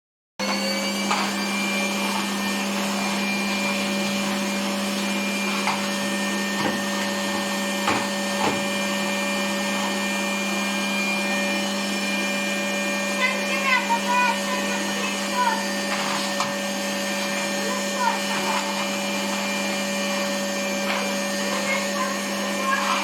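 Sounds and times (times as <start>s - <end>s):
vacuum cleaner whining hum: 0.4s - 23.0s.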